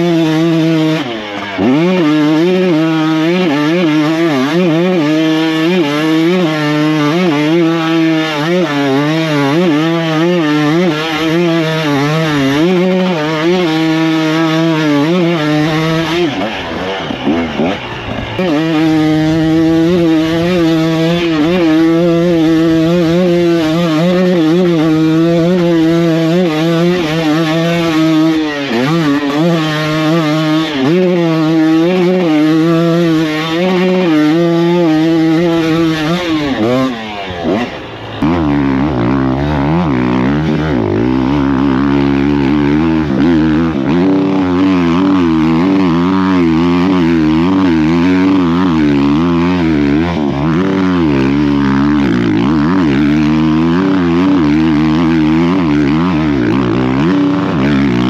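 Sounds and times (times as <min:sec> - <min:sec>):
dirt bike engine climbing hill: 0:00.0 - 0:58.0
second dirt bike lower pitch: 0:00.0 - 0:58.0.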